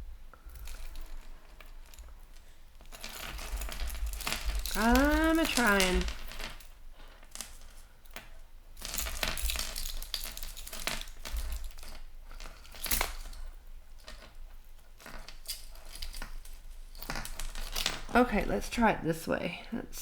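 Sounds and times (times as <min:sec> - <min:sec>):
metal chains clinking: 0:00.4 - 0:18.7.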